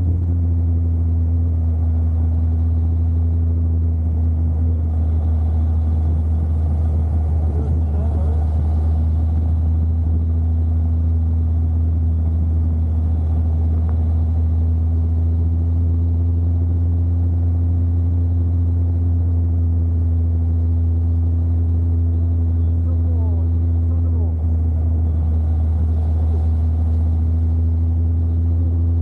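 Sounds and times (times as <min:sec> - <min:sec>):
motorcycle engine droning: 0:00.0 - 0:29.0.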